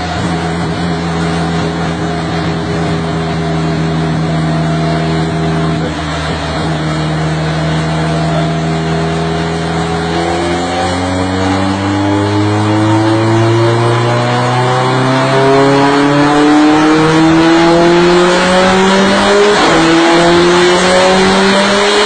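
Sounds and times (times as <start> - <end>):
car engine revving at full throttle: 0.0 - 22.0.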